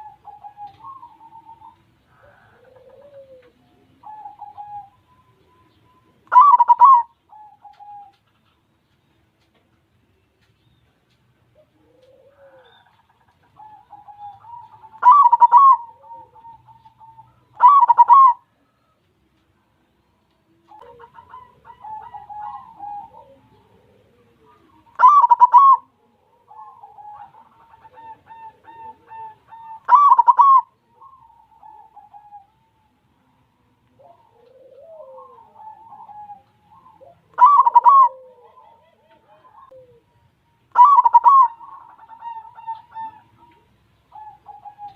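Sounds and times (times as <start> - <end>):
dove cooing song: 0.0 - 8.7, 9.4 - 44.9.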